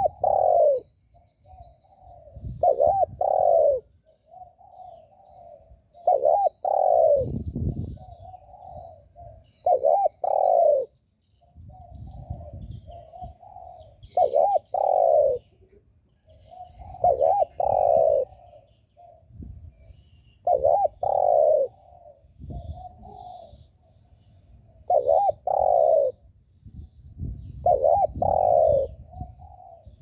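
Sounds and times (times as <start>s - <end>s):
dove cooing: 0.0s - 26.4s, 27.5s - 30.0s
high chirps of birds: 0.0s - 30.0s.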